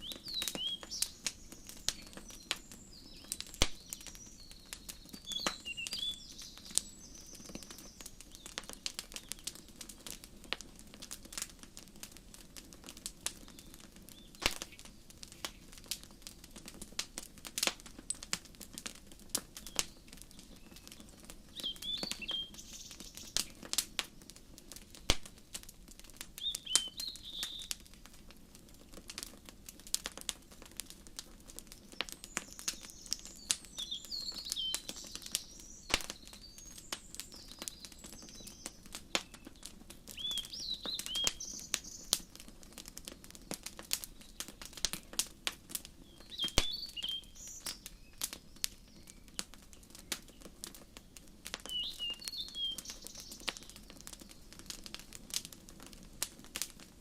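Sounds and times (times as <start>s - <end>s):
songbirds chirping: 0.0s - 28.1s, 30.6s - 56.7s
wood fire crackling and popping: 0.0s - 57.0s.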